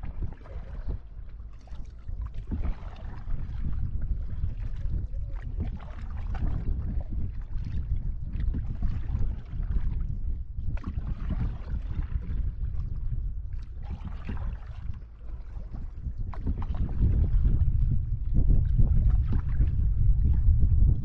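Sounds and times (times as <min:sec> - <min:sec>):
water splashing around canoe: 0:00.0 - 0:21.0
wind on microphone: 0:00.0 - 0:21.0.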